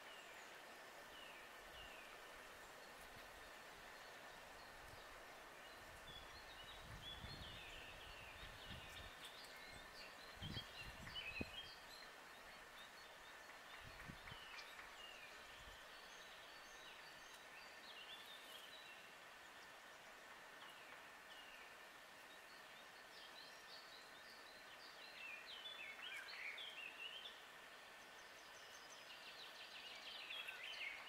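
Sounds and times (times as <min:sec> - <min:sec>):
small birds chirping: 0:00.0 - 0:31.0
steady background hiss: 0:00.0 - 0:31.0.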